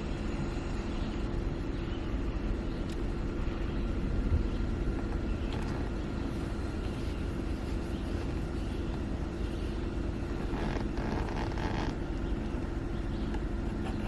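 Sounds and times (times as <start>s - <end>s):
car running rumble: 0.0s - 14.0s.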